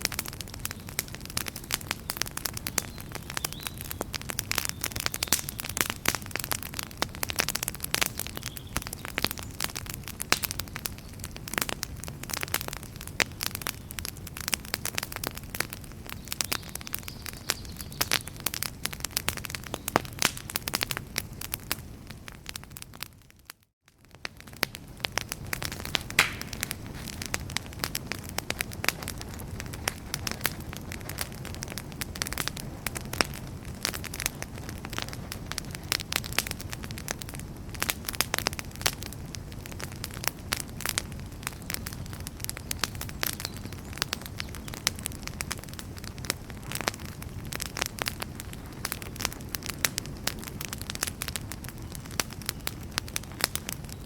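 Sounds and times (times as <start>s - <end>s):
campfire crackling and popping: 0.0s - 54.0s
low rumble of burning: 0.0s - 54.0s.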